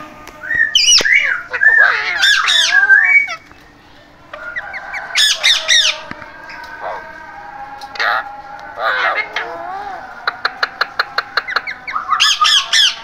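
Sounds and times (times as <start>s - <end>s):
parakeets squawking: 0.0s - 3.6s, 4.3s - 7.1s, 7.9s - 13.0s.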